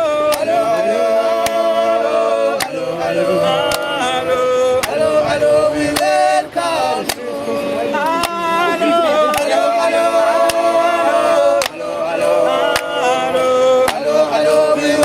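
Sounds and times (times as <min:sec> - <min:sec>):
steady beat: 0:00.0 - 0:15.0
voices singing held notes: 0:00.0 - 0:15.0.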